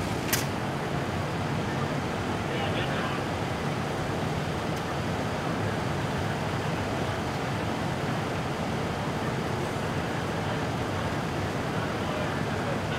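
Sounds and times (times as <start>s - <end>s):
fire engines running: 0.0s - 12.9s.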